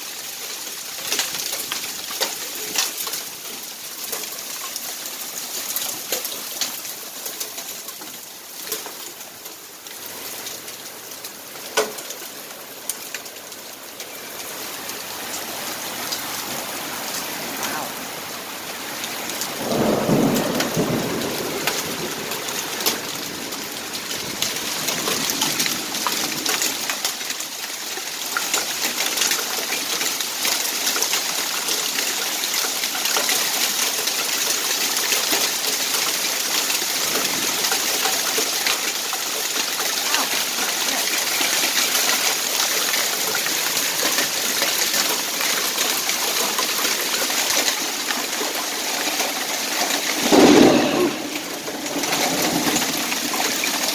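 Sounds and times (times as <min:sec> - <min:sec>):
hail and rain on concrete: 0:00.0 - 0:53.9.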